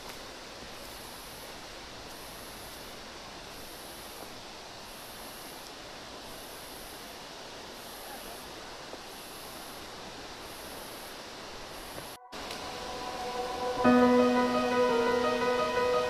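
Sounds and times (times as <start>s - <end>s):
steady forest hiss: 0.0s - 16.0s
high-pitched insect chorus: 0.8s - 16.0s.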